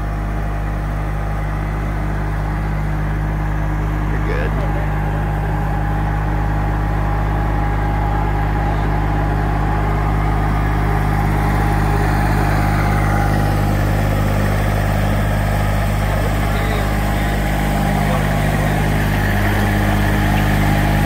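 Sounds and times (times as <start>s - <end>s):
engine whine: 0.0s - 21.0s
tractor diesel engine running: 0.0s - 21.0s.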